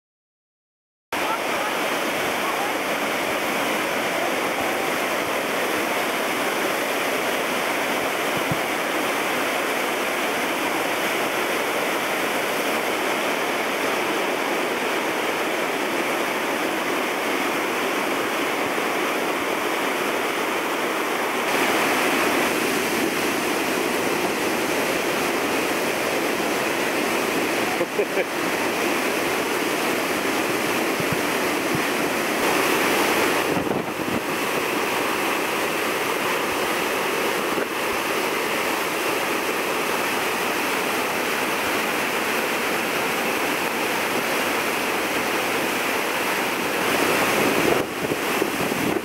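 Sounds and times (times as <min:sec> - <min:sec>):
river rushing over falls: 0:01.2 - 0:49.0.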